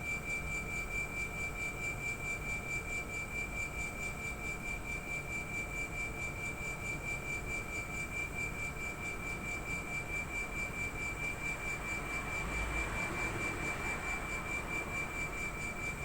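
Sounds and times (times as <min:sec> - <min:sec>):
air conditioner compressor whining: 0:00.0 - 0:16.0.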